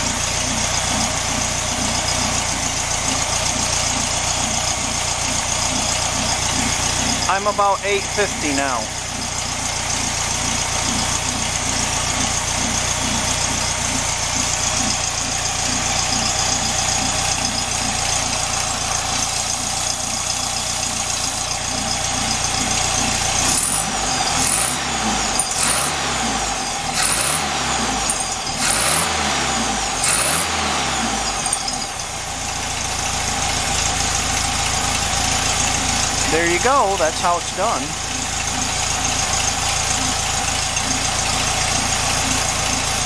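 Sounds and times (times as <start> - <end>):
engine revving: 0.0 - 20.0, 21.0 - 43.0
car engine idling: 0.0 - 43.0.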